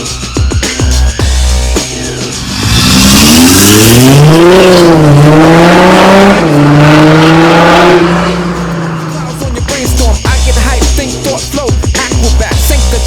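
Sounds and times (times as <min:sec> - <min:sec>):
diesel engine accelerating: 0:00.0 - 0:13.0.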